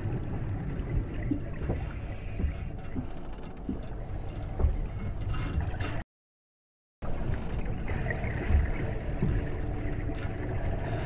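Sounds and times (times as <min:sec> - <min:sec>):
water rumbling: 0:00.0 - 0:06.0, 0:07.0 - 0:11.0.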